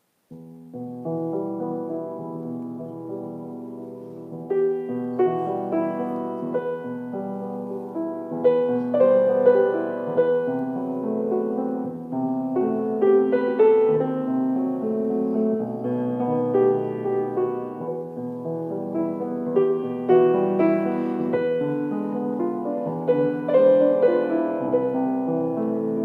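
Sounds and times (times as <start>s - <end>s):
piano playing chords and melody: 0.0s - 26.0s.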